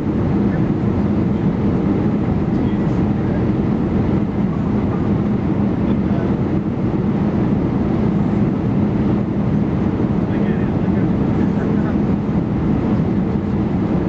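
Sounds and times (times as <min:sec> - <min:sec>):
jet engines: 0:00.0 - 0:14.0
steady low hum: 0:00.0 - 0:14.0.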